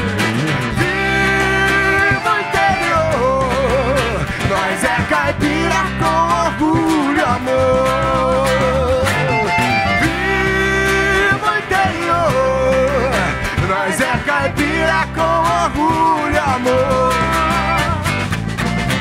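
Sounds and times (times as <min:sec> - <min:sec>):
man singing: 0:00.0 - 0:18.3
accordion: 0:00.0 - 0:19.0
acoustic guitar: 0:00.0 - 0:19.0
bass: 0:00.0 - 0:19.0
drums: 0:00.0 - 0:19.0.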